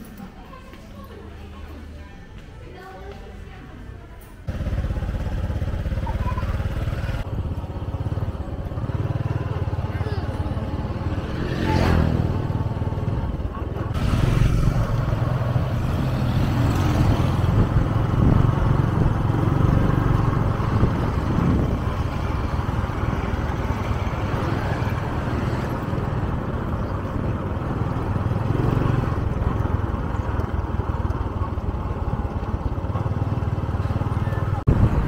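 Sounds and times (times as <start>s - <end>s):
road and traffic noise: 0.0s - 35.0s
vehicle engine running: 4.5s - 35.0s.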